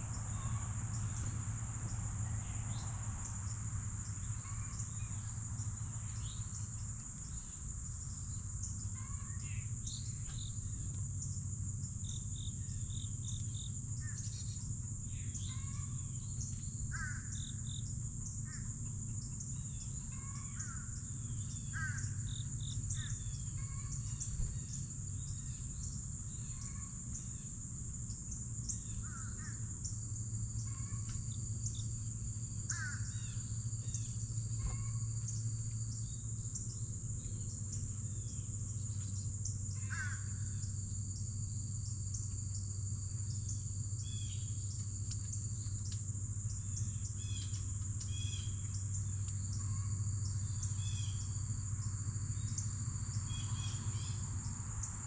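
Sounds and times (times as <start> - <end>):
high-pitched insect chorus: 0.0 - 55.0
steady low hum: 0.0 - 55.0.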